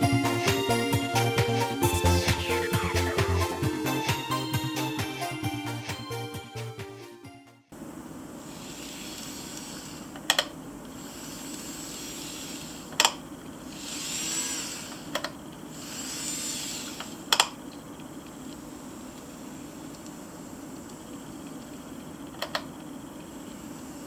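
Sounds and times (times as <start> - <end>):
steady low hum: 0.0 - 6.1, 7.7 - 24.0.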